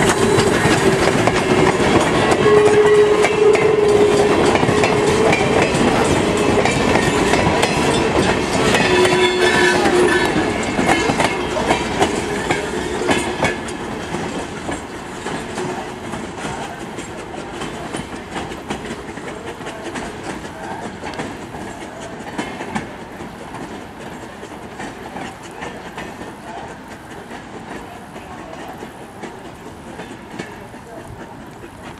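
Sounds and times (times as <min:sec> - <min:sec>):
steady train rumble: 0:00.0 - 0:31.9
train wheels clicking over rail joints: 0:00.0 - 0:31.9.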